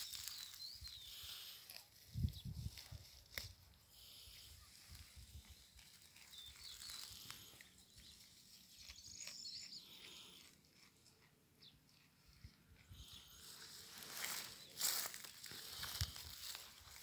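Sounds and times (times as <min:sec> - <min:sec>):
goat grazing rustling: 0:00.0 - 0:17.0.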